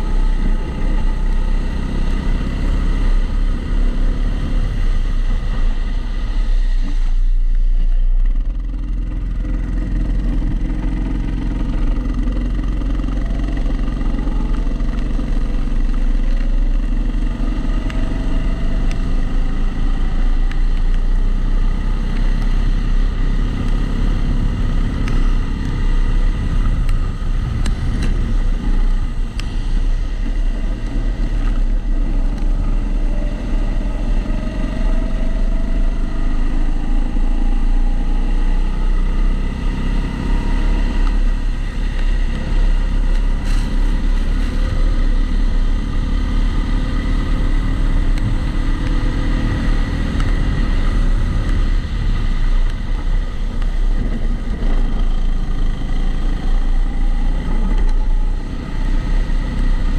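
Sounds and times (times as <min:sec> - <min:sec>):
constant low drone: 0:00.0 - 0:59.9.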